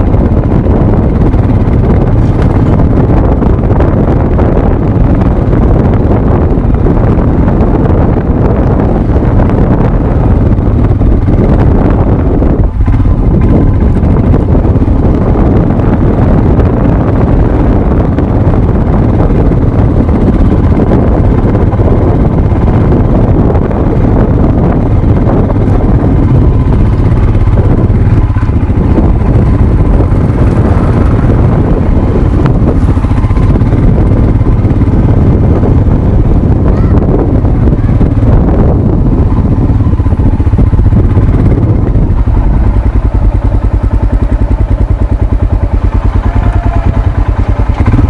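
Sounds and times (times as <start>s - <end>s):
low rumble on microphone: 0.0s - 48.0s
motorcycle engine running: 0.0s - 48.0s.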